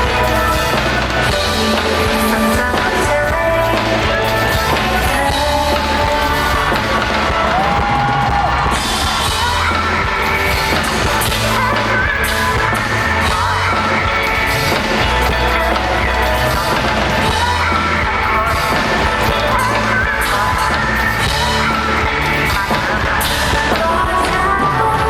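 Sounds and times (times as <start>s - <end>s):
pop-rock band playing: 0.0s - 25.0s
woman singing: 0.0s - 25.0s.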